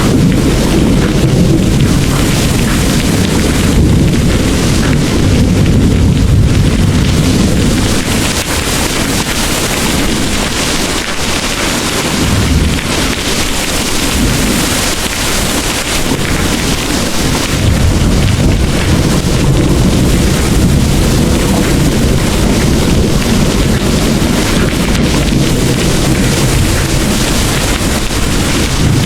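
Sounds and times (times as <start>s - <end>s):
heavy rain pouring: 0.0s - 29.0s
low rolling thunder: 0.0s - 29.0s.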